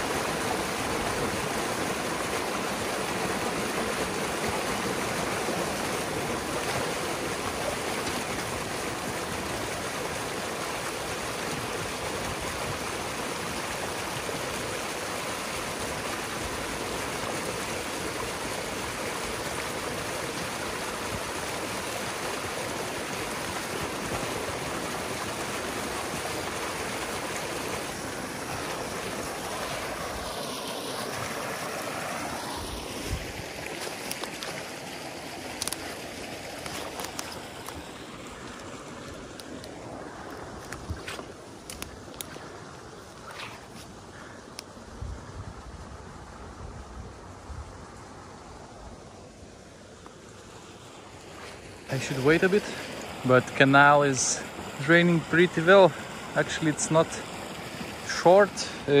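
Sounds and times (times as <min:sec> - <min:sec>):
water cascading through dam: 0:00.0 - 0:45.0, 0:49.0 - 0:59.0.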